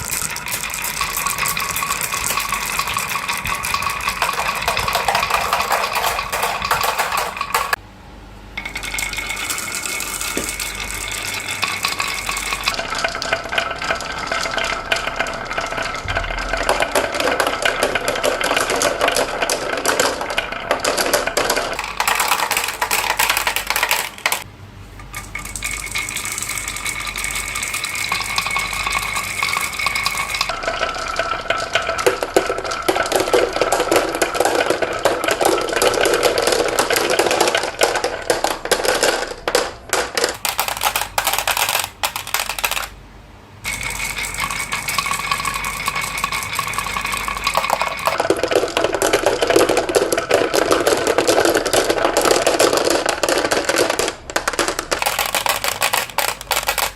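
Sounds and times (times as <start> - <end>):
marbles rolling and clacking: 0.0 - 7.8, 8.6 - 43.0, 43.6 - 56.9.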